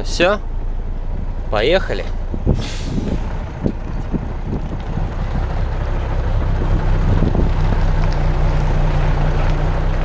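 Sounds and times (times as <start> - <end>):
truck diesel engine pulling away: 0.0 - 10.0.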